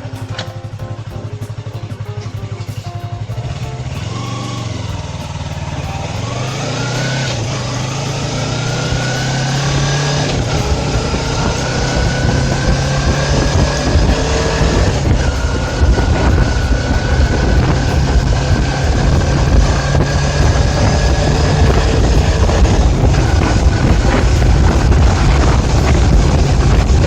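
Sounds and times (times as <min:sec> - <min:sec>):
motorcycle engine accelerating: 0:00.0 - 0:27.0
wind noise: 0:00.0 - 0:27.0.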